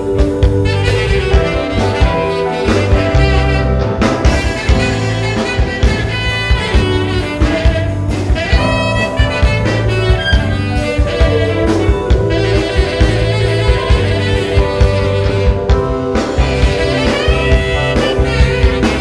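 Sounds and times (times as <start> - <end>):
live band playing pop-soul: 0.0 - 19.0
saxophone melody: 0.0 - 19.0.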